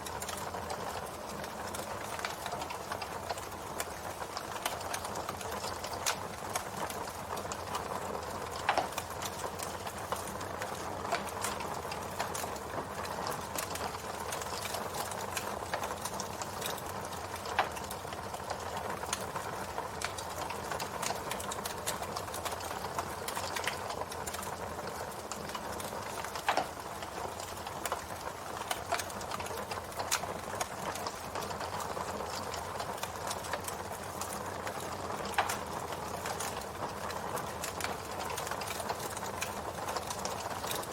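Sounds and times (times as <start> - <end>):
campfire crackling and hissing: 0.0 - 40.9
fire snaps and pops: 0.0 - 40.9.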